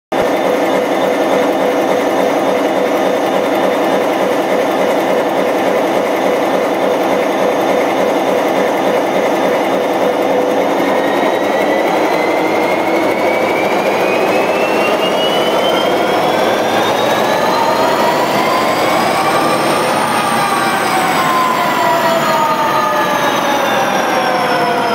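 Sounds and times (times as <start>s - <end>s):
diesel engine running and revving: 0.1s - 24.9s.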